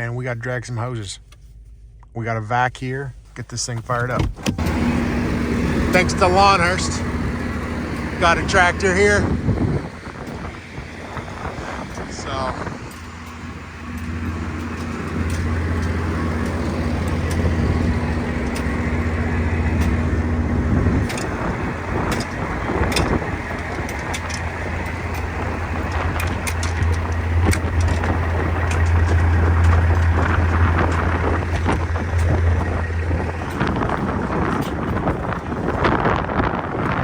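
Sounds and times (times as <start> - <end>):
tractor engine droning: 0.0 - 37.0
sharp clicks and knocks: 3.7 - 36.0.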